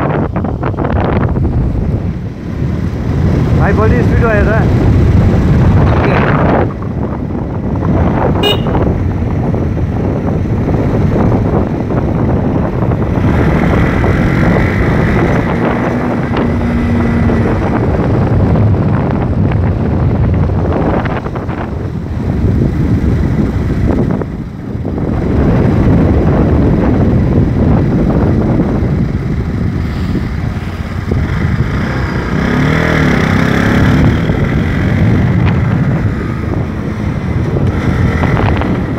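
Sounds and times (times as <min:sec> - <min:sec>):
motorcycle running at speed: 0:00.0 - 0:38.9
wind buffeting microphone: 0:00.0 - 0:38.9.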